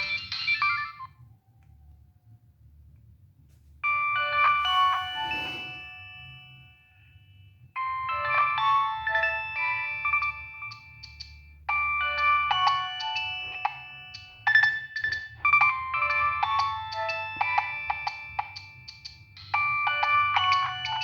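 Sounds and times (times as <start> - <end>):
polyphonic phone ringtone: 0.0 - 1.1, 3.8 - 21.0.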